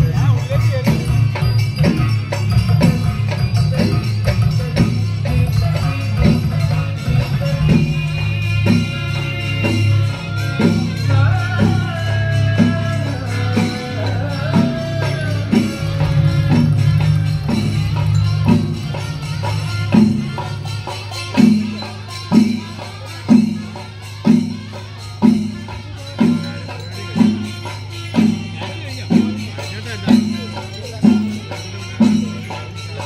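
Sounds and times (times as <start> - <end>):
cymbals: 0.0 - 33.0
drums beating: 0.0 - 33.0
wavering wind instrument melody: 0.0 - 33.0.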